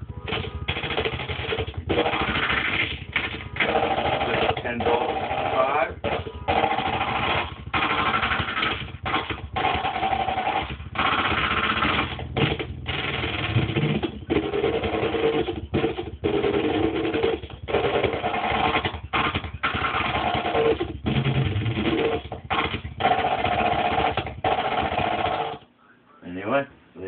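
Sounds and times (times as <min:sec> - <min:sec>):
noisy synthesizer drum loop: 0:00.0 - 0:25.8.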